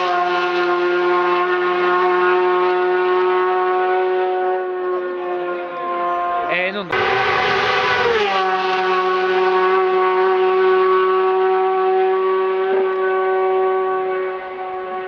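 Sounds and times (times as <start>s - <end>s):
steady horn-like tone: 0.0s - 15.0s.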